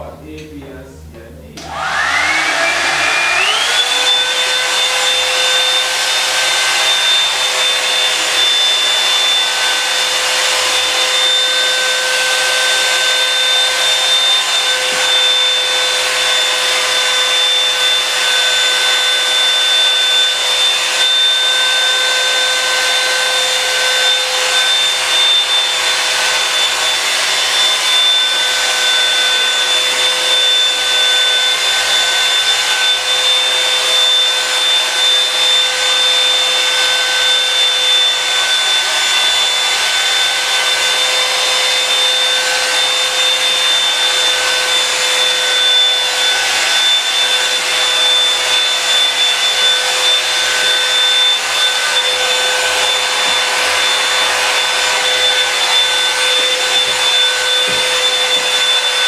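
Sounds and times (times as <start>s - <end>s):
hot-air brush blowing air: 1.6s - 59.0s
motor whine: 1.6s - 59.0s.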